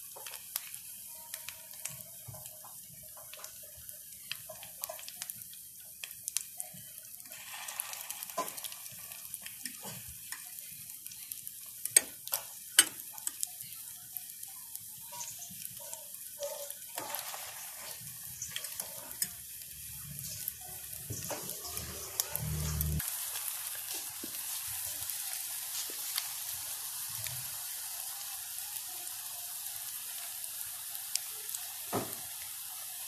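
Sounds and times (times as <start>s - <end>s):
food deep-frying in hot oil: 0.0s - 33.0s.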